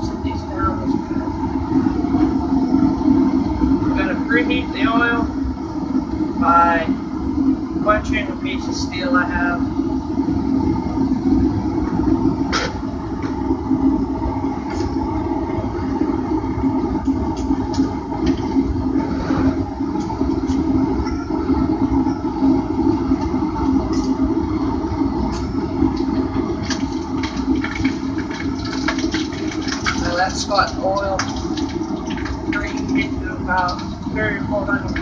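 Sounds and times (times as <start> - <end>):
forge roaring: 0.0 - 35.0
oil bubbling: 0.0 - 35.0.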